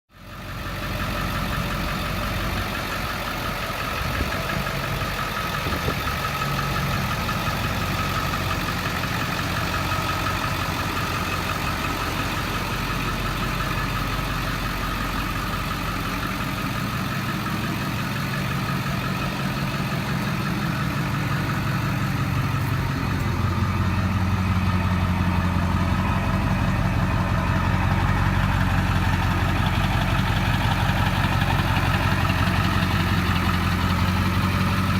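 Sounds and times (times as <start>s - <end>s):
diesel truck engine idling: 0.1s - 34.9s.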